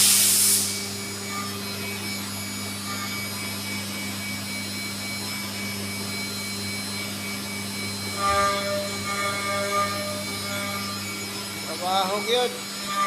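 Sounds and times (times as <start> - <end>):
faint high whine: 0.0 - 13.0
milling machine electric hum: 0.0 - 13.0.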